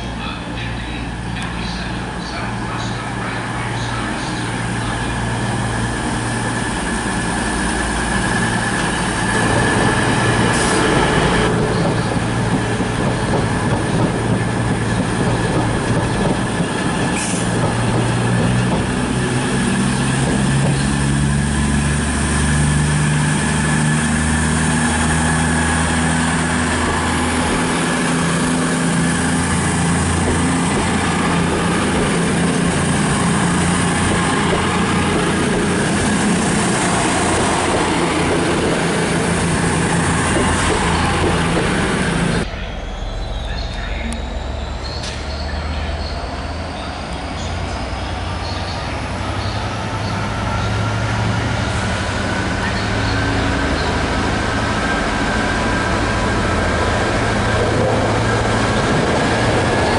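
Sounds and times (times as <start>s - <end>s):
diesel train engines droning: 0.0s - 59.9s.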